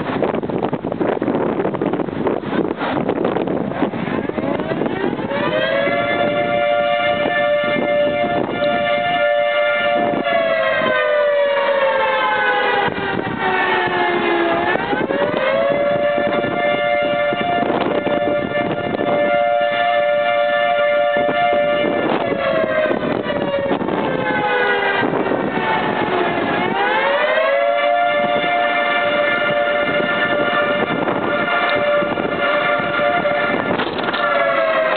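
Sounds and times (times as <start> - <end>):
tornado warning siren: 0.0 - 34.9
wind buffeting the microphone: 0.0 - 34.9.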